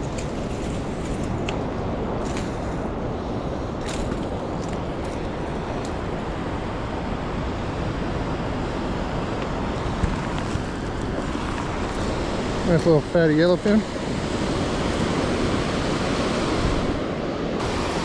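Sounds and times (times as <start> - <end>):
ocean surf rushing: 0.0 - 18.0
wind buffeting microphone: 0.0 - 18.0.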